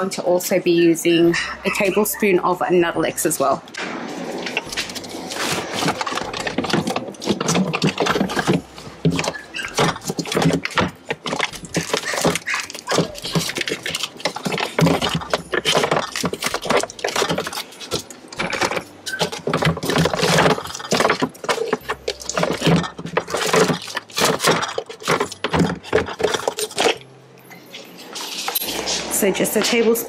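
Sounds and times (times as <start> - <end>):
jars and bottles clattering in fridge: 4.3 - 30.0.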